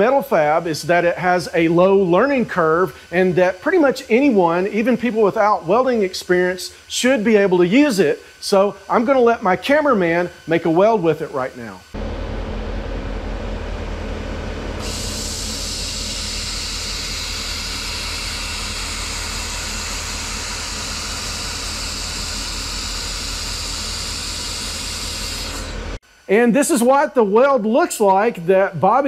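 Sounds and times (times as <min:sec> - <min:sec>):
welding gun hissing: 0:00.0 - 0:11.9, 0:14.8 - 0:28.7
machine hum: 0:00.0 - 0:29.0.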